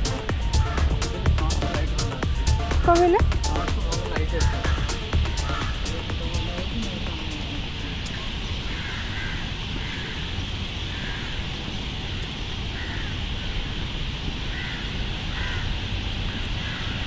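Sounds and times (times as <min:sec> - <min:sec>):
crows cawing: 0:00.0 - 0:17.0
outdoor noise haze: 0:00.0 - 0:17.0.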